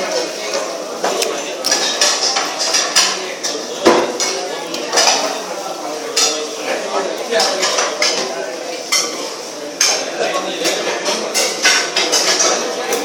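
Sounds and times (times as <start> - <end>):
cutlery and plates clinking: 0.0 - 13.0.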